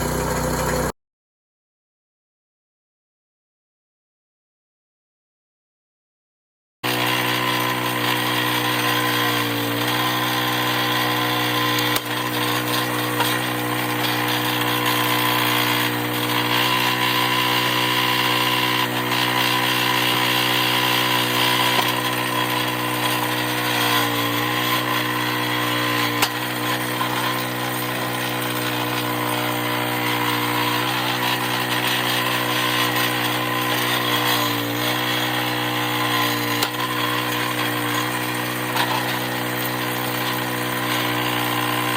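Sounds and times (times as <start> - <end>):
small engine running: 0.0 - 0.9, 6.8 - 41.9.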